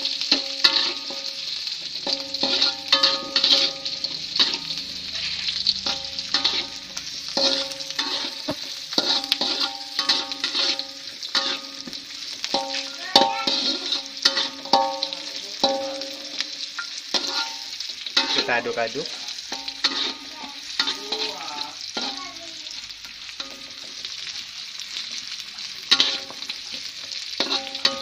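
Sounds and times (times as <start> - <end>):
spatula scraping and knocking wok: 0.0 - 28.0
spices sizzling in hot oil: 0.0 - 28.0.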